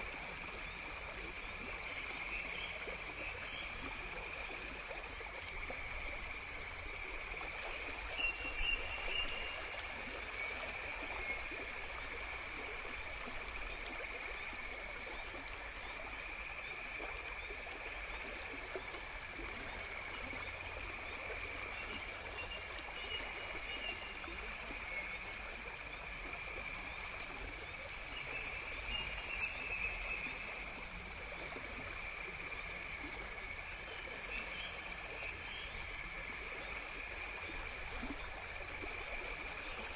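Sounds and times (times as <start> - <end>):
insect chorus: 0.0 - 39.9
stream-like hiss: 0.0 - 39.9.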